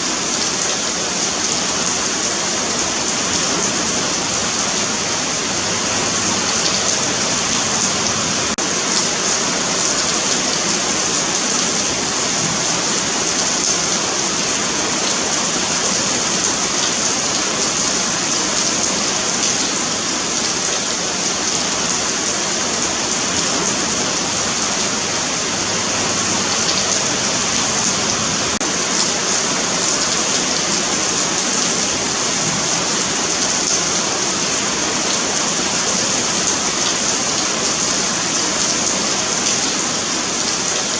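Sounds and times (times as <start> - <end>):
rain on pavement: 0.0 - 40.9.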